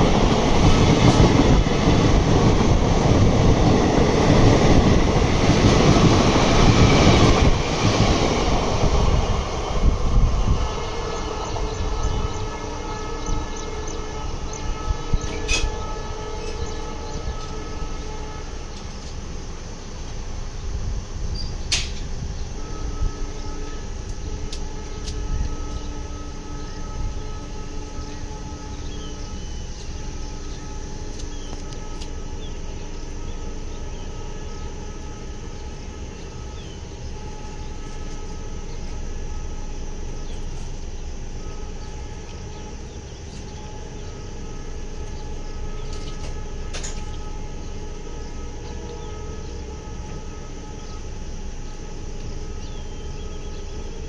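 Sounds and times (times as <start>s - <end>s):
train wheels rumbling on rails: 0.0s - 54.0s
faint sustained tones: 9.4s - 54.0s.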